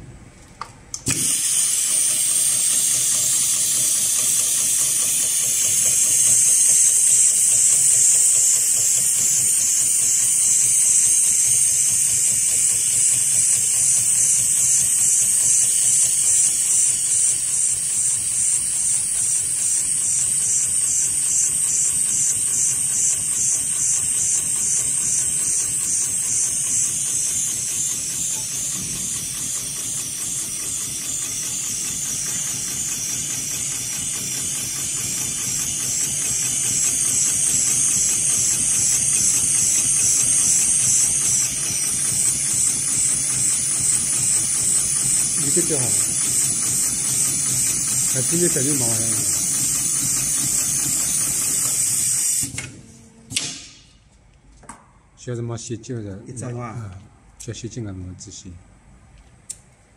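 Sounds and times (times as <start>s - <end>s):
compressed air hissing: 1.0s - 20.2s, 23.4s - 52.6s
sewing machine stitching: 1.0s - 52.6s.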